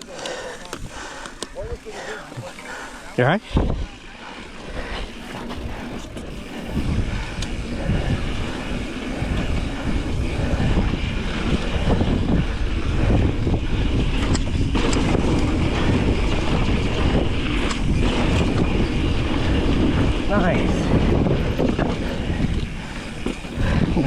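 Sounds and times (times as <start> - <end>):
wind buffeting microphone: 0.0 - 24.0
bike rattling over ground: 3.7 - 24.0.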